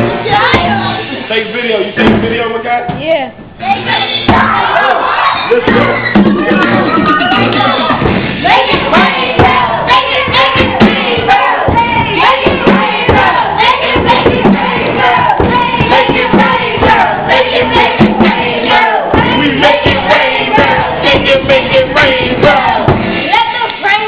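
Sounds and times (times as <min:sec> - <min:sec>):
voices singing or calling: 0:00.0 - 0:01.3, 0:03.6 - 0:24.0.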